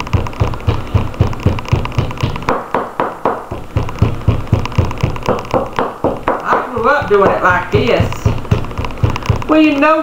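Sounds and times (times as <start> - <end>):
bottle pounding meat on board: 0.0 - 10.0.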